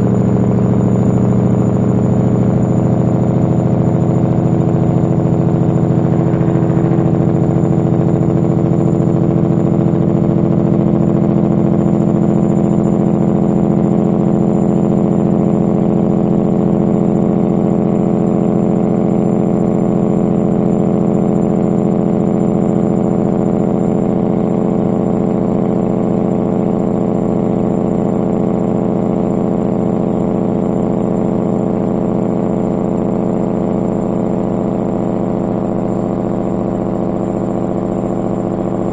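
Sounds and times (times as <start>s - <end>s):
diesel truck engine running: 0.0s - 29.2s, 29.9s - 38.9s.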